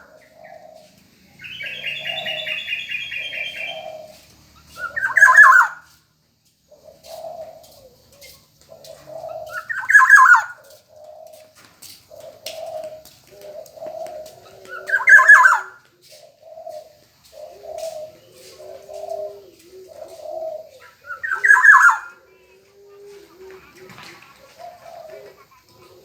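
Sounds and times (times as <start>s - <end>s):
bird harsh calls: 0.0s - 5.9s, 6.8s - 11.4s, 12.1s - 26.0s
bird cooing notes: 0.0s - 6.0s, 6.6s - 26.0s.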